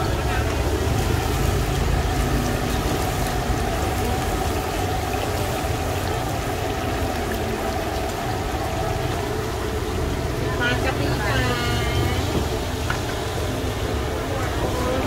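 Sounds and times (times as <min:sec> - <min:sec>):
busy street market ambience: 0:00.0 - 0:15.0.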